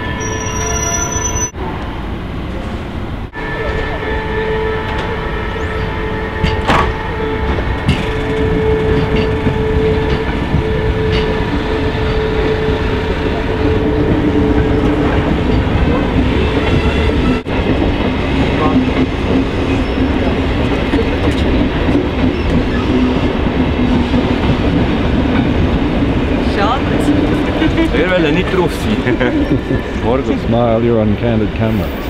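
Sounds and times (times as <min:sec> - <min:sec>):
train wheels rumbling and clattering: 0:04.8 - 0:32.0.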